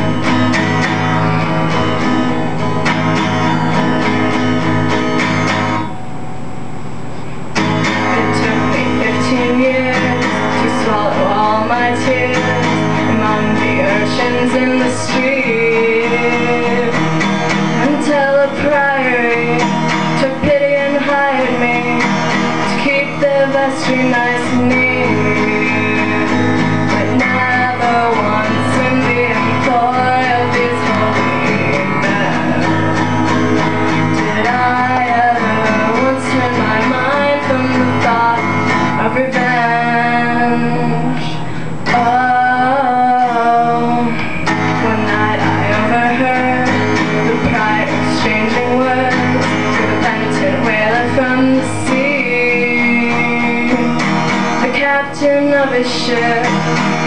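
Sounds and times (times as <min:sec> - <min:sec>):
acoustic guitar: 0:00.0 - 0:57.0
woman singing: 0:07.9 - 0:32.9, 0:33.9 - 0:57.0.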